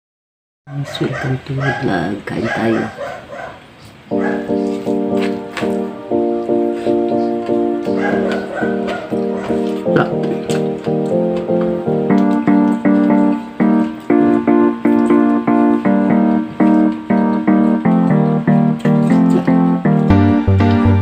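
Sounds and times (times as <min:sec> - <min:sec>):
electric piano playing chords: 0:01.0 - 0:21.0.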